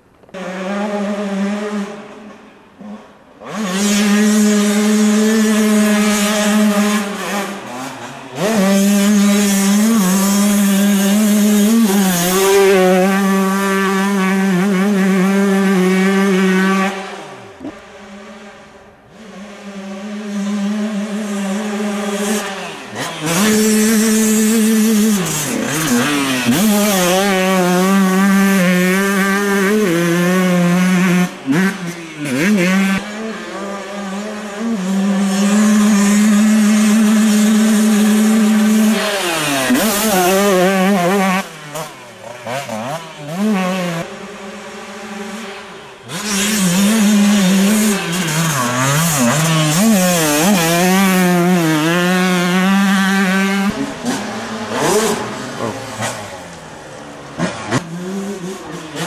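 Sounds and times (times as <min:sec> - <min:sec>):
motocross bike engines revving: 0:00.2 - 0:59.0.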